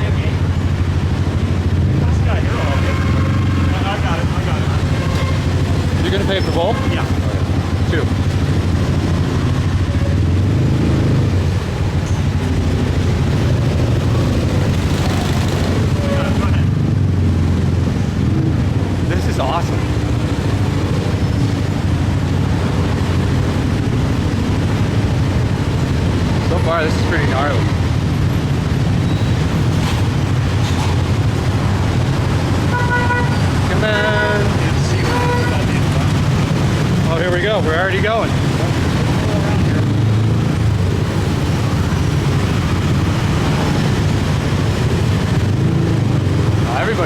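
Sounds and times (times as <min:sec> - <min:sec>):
engines rumbling: 0:00.0 - 0:47.0.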